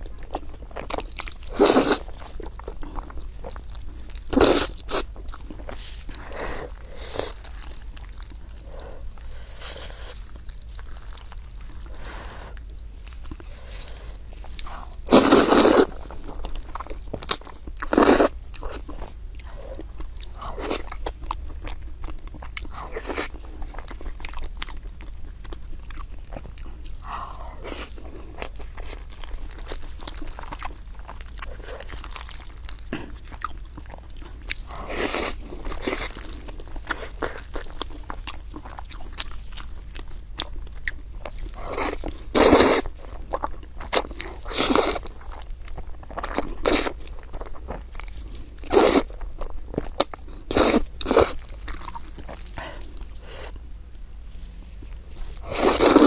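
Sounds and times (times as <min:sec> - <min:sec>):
person chewing with crunches: 0:00.0 - 0:56.0.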